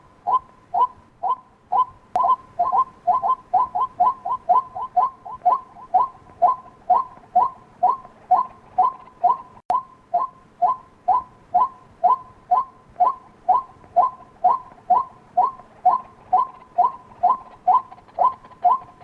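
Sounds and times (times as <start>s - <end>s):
waterhen harsh calls: 0.3s - 19.0s.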